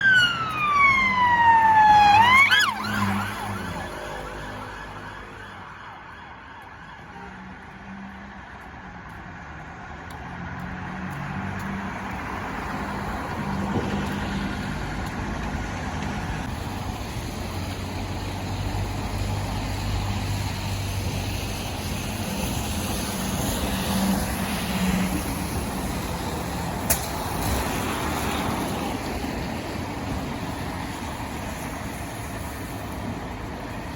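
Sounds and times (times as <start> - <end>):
emergency vehicle siren: 0.0 - 9.6, 10.4 - 33.9
street traffic: 0.0 - 33.9.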